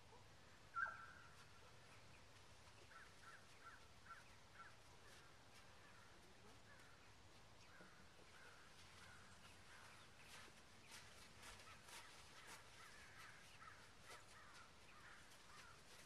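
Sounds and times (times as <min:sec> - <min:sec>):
distant bird calls: 0:00.7 - 0:16.0.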